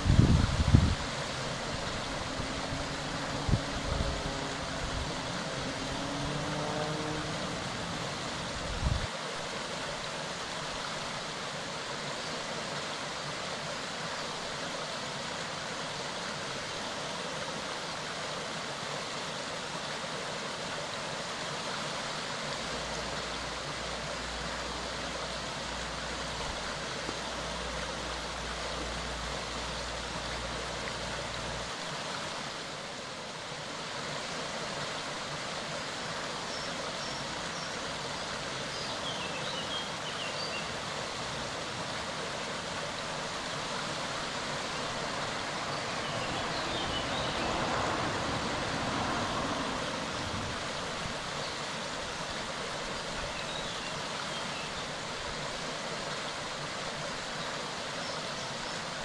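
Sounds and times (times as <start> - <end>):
water running over stones: 0.0 - 59.0.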